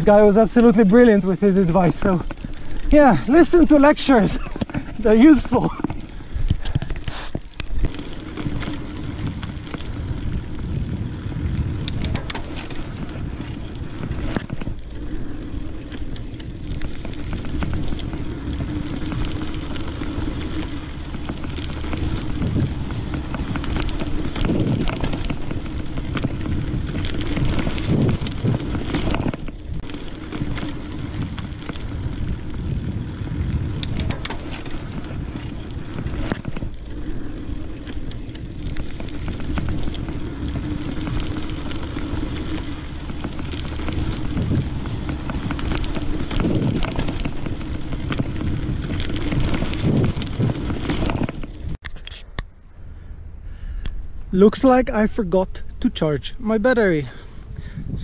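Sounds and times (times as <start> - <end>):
bike rattling clicks: 0.0 - 52.5
bike tyres crunching on dirt: 0.0 - 58.0
wind rumble on microphone: 5.7 - 54.4, 57.1 - 58.0.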